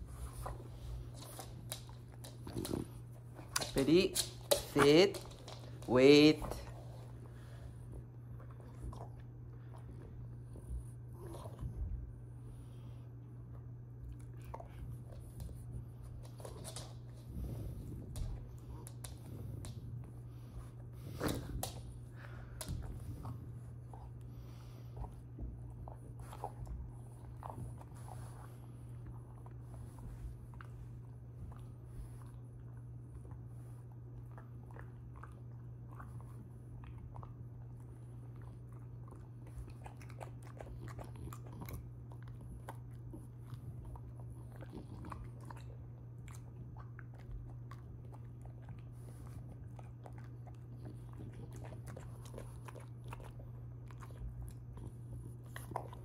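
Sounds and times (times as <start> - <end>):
dog chewing and crunching food: 0.0 - 56.0.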